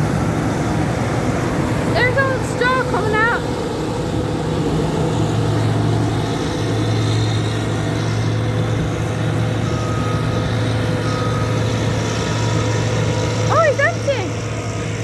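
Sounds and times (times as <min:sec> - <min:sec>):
combine harvester engine hum: 0:00.0 - 0:15.0.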